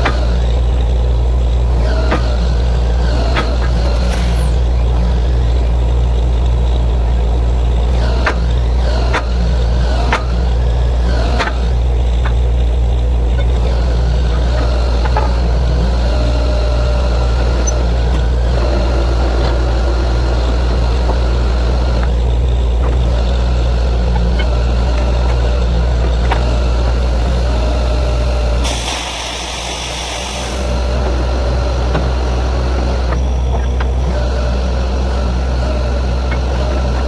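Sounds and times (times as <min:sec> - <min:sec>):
drilling rig engine drone: 0:00.0 - 0:37.0.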